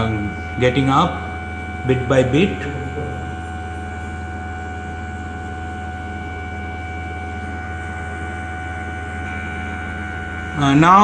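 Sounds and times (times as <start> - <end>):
machine hum with whining tones: 0.0 - 11.0.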